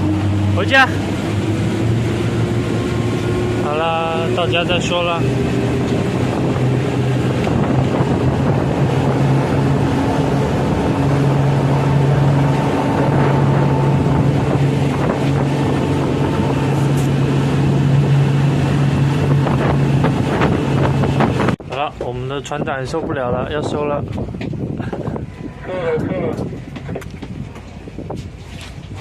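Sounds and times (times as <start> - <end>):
boat engine humming: 0.0 - 29.0
wind buffeting microphone: 0.0 - 29.0.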